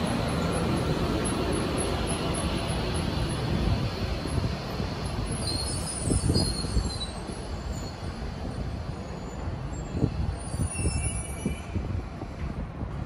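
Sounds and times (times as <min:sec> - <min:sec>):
electric train rumble and hum: 0:00.0 - 0:13.0.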